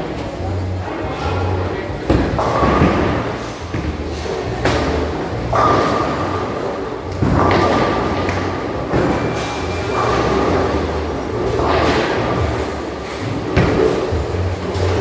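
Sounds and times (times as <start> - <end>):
bowling balls thudding on lanes: 2.0 - 15.0
bowling pins crashing: 2.0 - 15.0.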